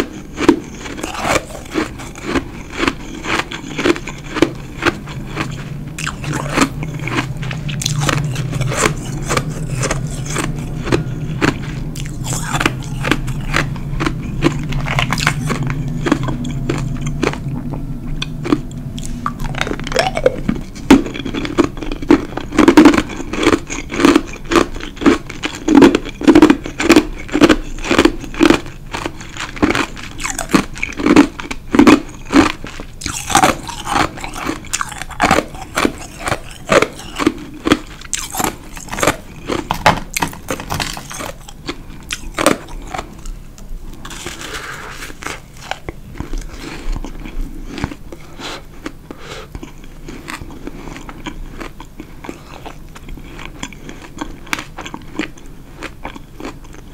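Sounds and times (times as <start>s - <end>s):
chewing and crunching ice: 0.0s - 56.9s.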